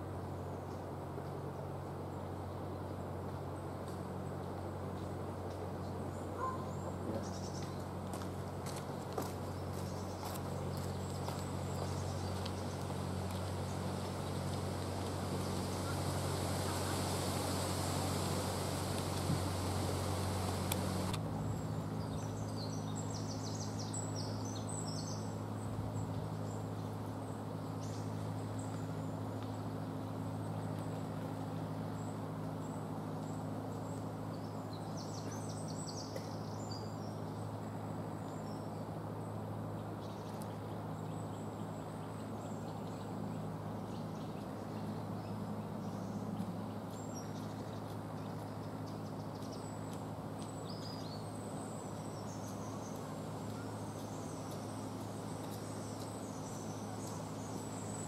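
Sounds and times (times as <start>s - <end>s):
constant low hum: 0.0s - 58.0s
outdoor background hiss: 0.0s - 58.0s.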